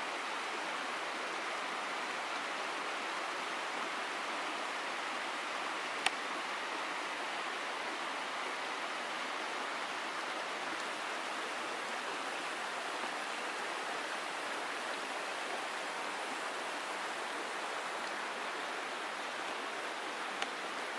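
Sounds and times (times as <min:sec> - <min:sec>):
stream rushing over rocks: 0:00.0 - 0:20.9.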